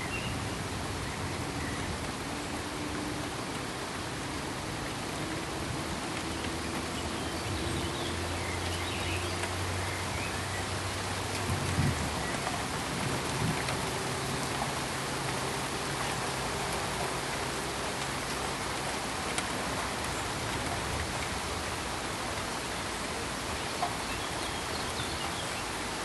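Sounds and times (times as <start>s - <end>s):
pink noise hiss: 0.0s - 26.0s.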